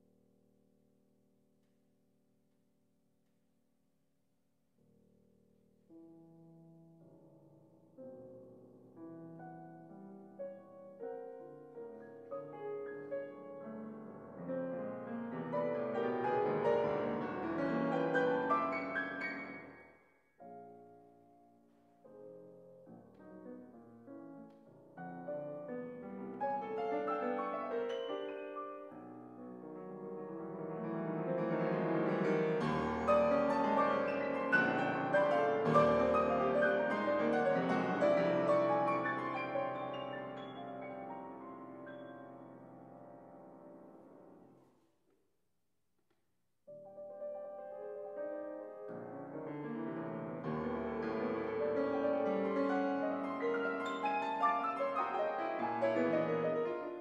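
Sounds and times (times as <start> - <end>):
solo grand piano: 5.8 - 44.7, 46.7 - 57.0.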